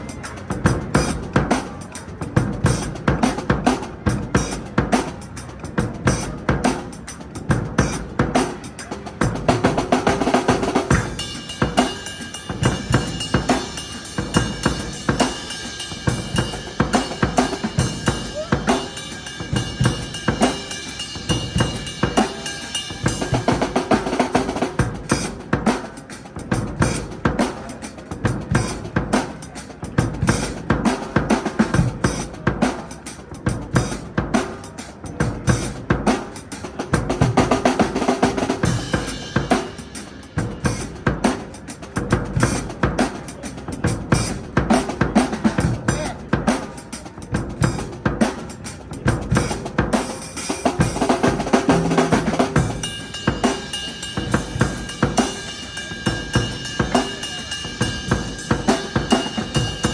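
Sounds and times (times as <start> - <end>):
drum kit shuffle groove: 0.0 - 59.9.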